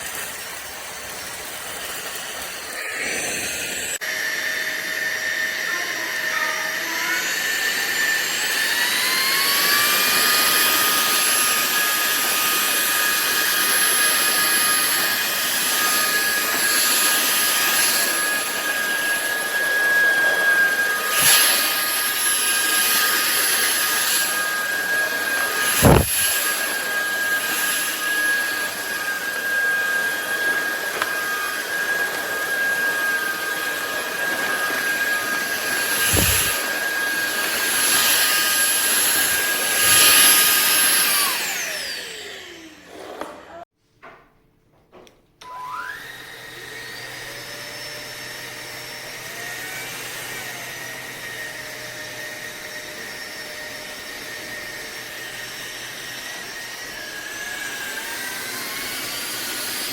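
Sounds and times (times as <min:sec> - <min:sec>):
vacuum cleaner motor whine: 0:00.0 - 0:43.7, 0:45.4 - 0:59.9.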